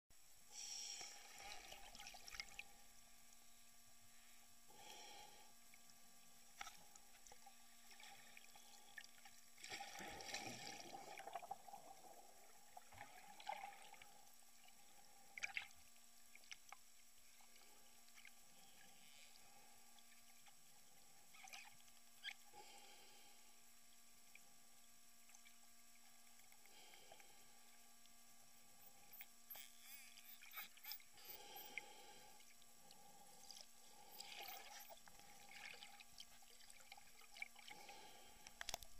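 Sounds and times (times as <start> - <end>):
faint electronic hum: 0.1 - 38.9.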